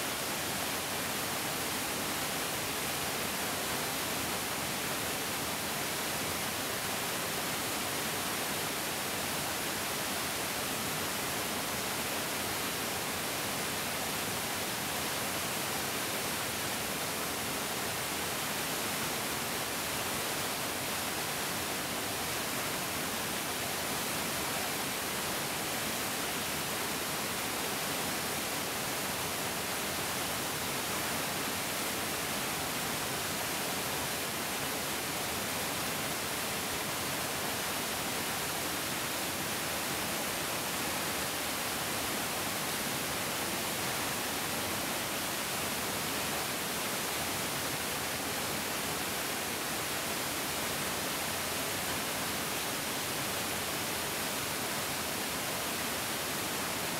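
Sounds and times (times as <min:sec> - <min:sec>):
stream rushing: 0:00.0 - 0:56.9.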